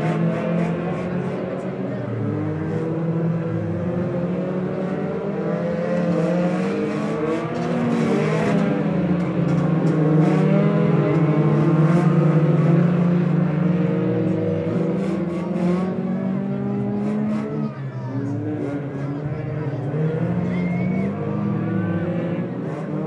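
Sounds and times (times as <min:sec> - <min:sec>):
racing car engines: 0:00.0 - 0:23.0.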